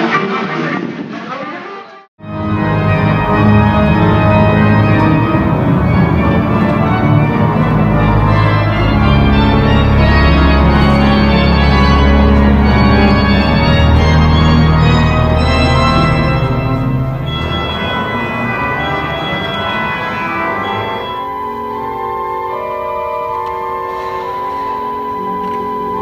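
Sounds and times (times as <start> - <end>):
pipe organ playing chords: 2.2 - 26.0.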